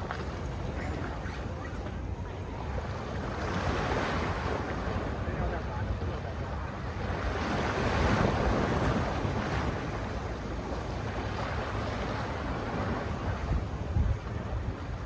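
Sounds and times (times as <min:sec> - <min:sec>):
sea waves washing onto beach: 0:00.0 - 0:15.0
wind rumbling on microphone: 0:00.0 - 0:15.0.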